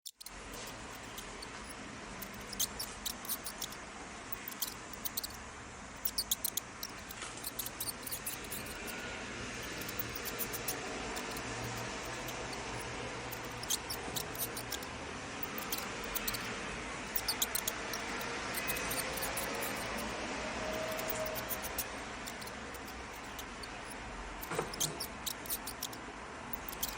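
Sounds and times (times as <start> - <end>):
mouse squeaking: 0.0 - 5.4, 6.0 - 26.9.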